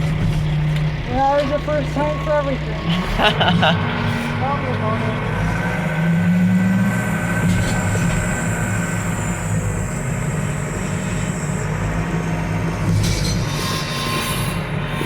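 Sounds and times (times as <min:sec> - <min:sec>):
heavy diesel engine running: 0:00.0 - 0:15.0
thin high whine: 0:01.3 - 0:15.0.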